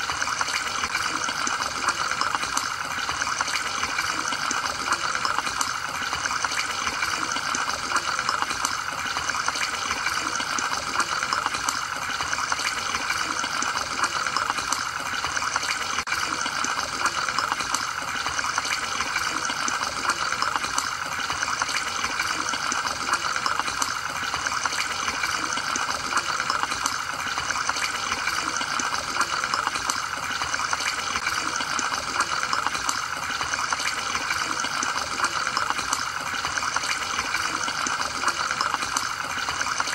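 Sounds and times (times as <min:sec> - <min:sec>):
aquarium filter bubbling: 0:00.0 - 0:39.9.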